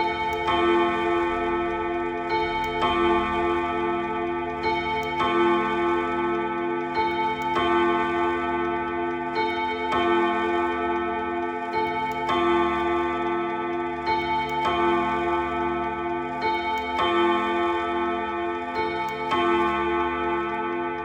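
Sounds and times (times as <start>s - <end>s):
clock gong rods chiming: 0.0s - 21.0s.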